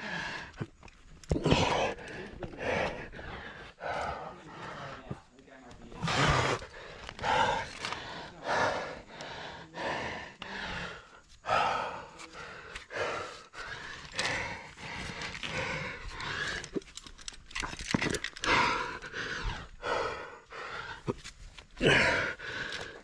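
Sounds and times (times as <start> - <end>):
person panting heavily: 0.0 - 23.0.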